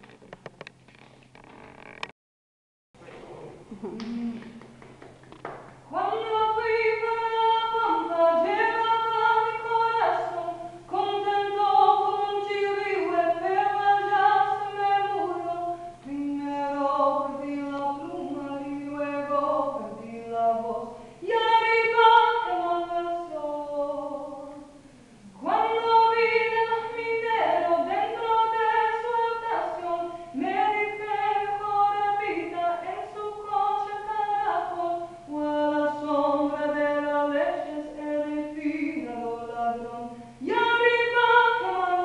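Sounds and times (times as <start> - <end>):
woman singing unaccompanied: 5.9 - 42.0.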